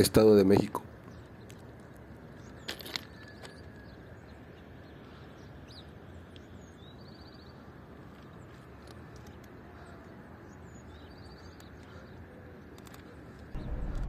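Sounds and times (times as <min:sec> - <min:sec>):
faint birds chirping: 0:00.0 - 0:13.9.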